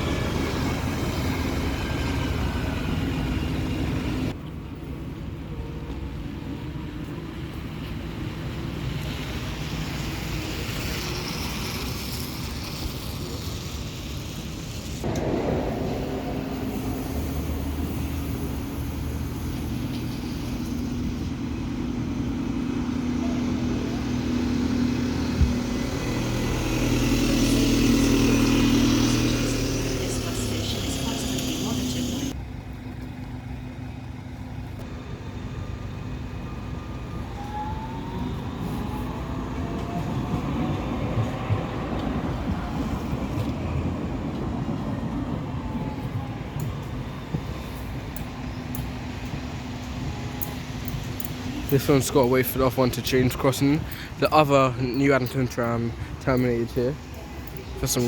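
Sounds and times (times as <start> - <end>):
bus engines running: 0.0 - 58.0.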